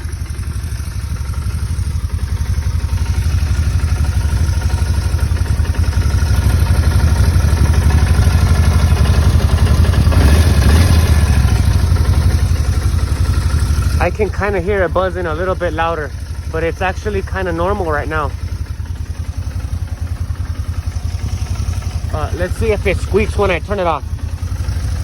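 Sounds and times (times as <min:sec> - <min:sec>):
fuel pump buzz: 0:00.0 - 0:25.0
motorcycle engine idling: 0:00.0 - 0:25.0.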